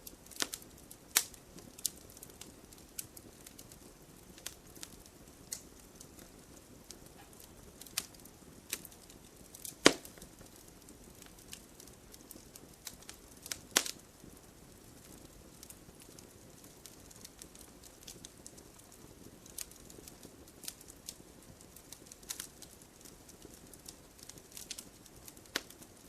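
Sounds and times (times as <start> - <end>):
burning wood popping: 0.0 - 26.0
fire hissing: 0.0 - 26.0.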